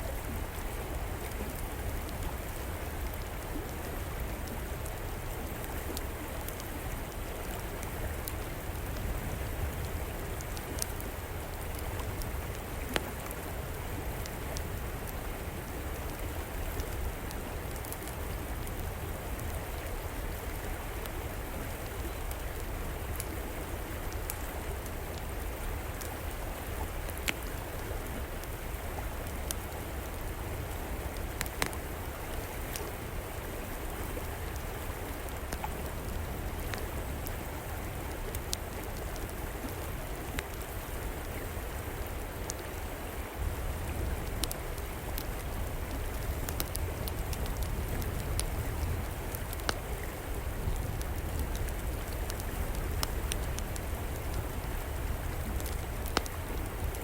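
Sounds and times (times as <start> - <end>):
river water rushing: 0.0 - 57.0
wood fire crackling: 1.2 - 57.0.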